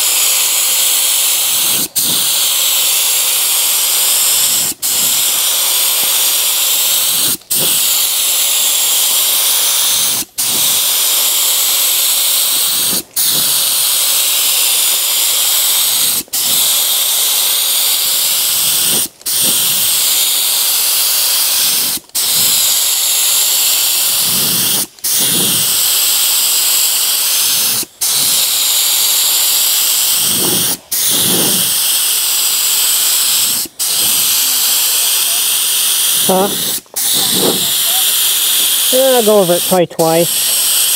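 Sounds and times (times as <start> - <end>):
spray gun hissing: 0.0 - 40.9.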